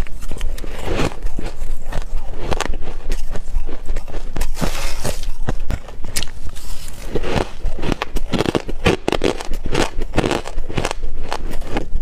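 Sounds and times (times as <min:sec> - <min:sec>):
person chewing crushed ice: 0:00.0 - 0:12.0.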